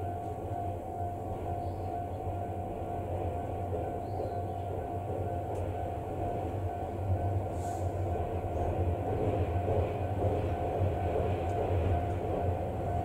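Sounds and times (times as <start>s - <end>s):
steam locomotive train rumbling: 0.0s - 13.0s.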